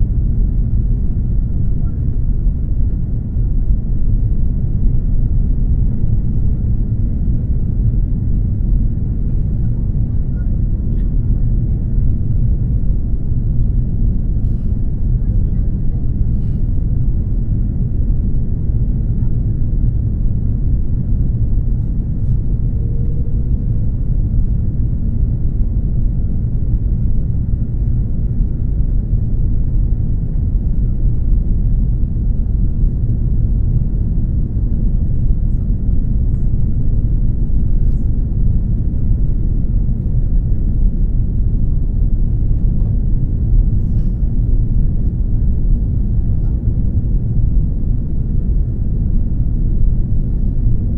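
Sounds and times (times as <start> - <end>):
aircraft cabin rumble: 0.0 - 50.9.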